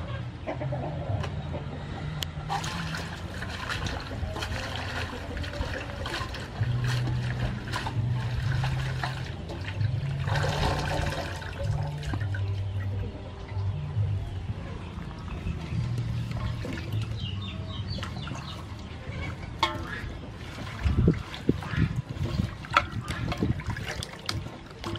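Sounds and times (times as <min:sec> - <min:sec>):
water sloshing and splashing in basin: 0:02.4 - 0:24.9.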